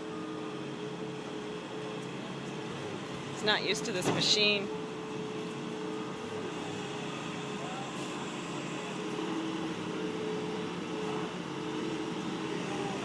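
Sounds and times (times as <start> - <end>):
skid steer loader engine drone: 0.0 - 13.0.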